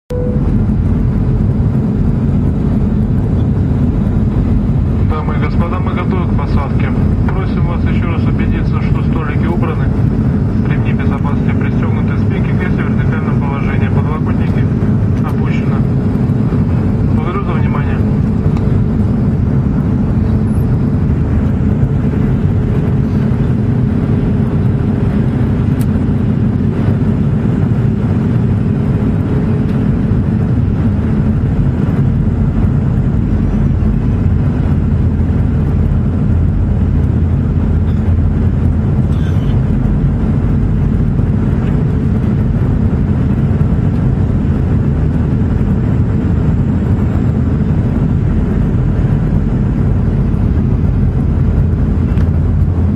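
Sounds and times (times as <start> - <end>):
airliner cabin engine rumble: 0.1 - 52.9.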